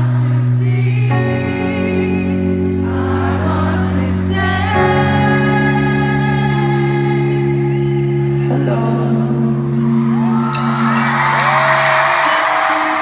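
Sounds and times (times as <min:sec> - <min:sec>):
synth chords: 0:00.0 - 0:13.0
voices singing: 0:00.0 - 0:13.0.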